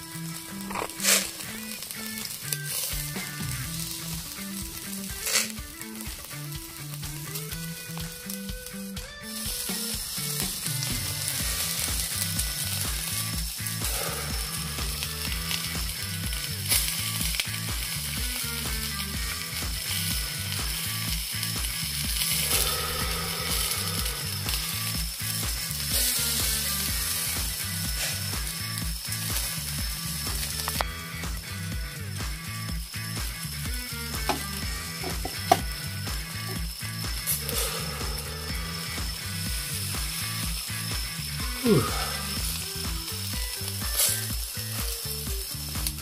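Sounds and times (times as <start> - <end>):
meat sizzling on a grill: 0.0 - 46.0
music with rhythmic bass line: 0.0 - 46.0.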